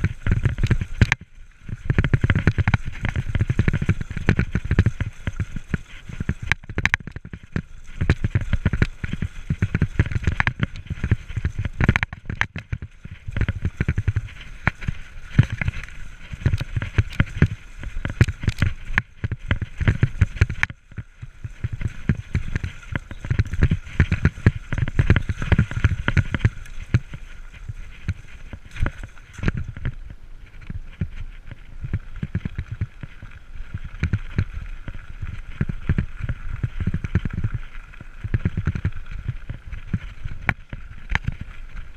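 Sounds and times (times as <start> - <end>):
bike clattering and rattling: 0.0 - 41.9
wind buffeting microphone: 0.0 - 41.9.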